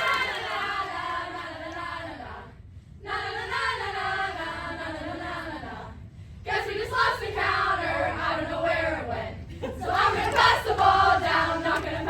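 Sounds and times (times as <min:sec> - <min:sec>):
girls singing in unison: 0:00.1 - 0:12.0.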